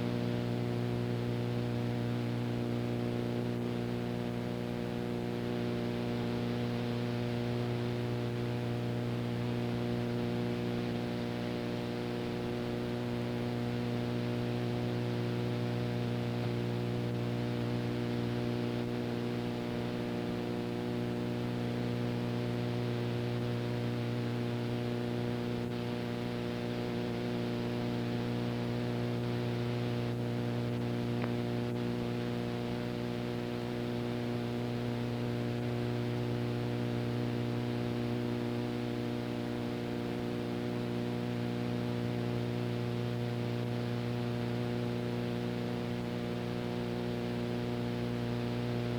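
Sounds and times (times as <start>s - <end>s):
electrical mains hum: 0.0s - 48.9s.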